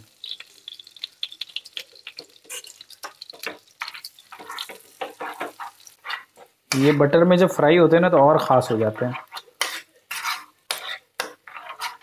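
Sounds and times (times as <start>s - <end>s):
onions sizzling in a frying pan: 0.0s - 12.0s
spoon stirring in a pan: 0.1s - 7.5s, 8.1s - 12.0s.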